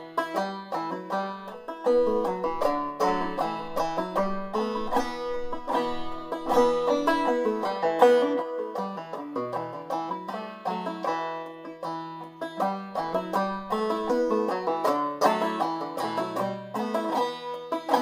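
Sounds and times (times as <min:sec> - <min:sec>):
banjo playing: 0:00.0 - 0:18.0.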